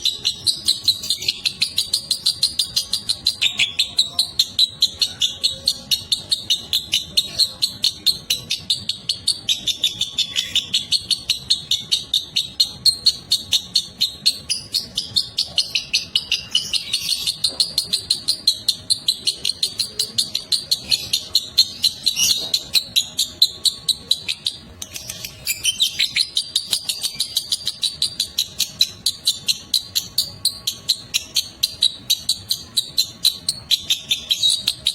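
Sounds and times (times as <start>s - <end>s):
lovebird chattering: 0.0s - 34.9s.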